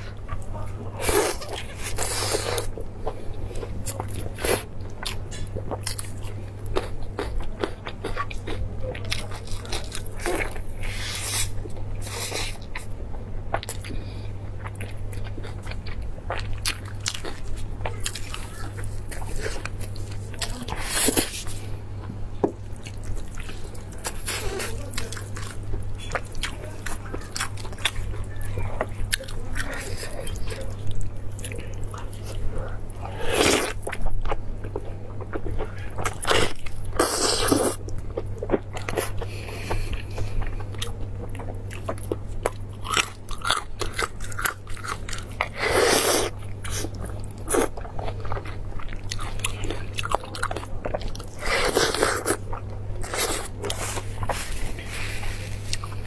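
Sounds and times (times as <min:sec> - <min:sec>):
person chewing: 0:00.0 - 0:21.8, 0:22.4 - 0:56.0
steady low hum: 0:00.0 - 0:56.0.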